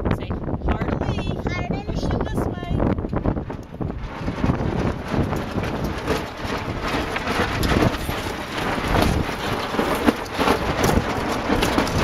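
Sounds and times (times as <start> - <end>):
wind buffeting microphone: 0.0 - 12.0
sails flapping and knocking: 0.5 - 12.0.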